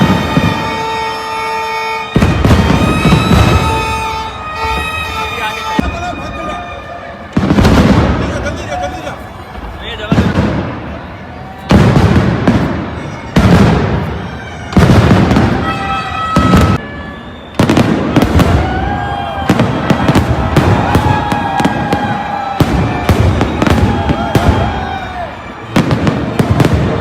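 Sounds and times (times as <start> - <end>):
fireworks booming: 0.0 - 27.0
fireworks crackling: 0.0 - 27.0.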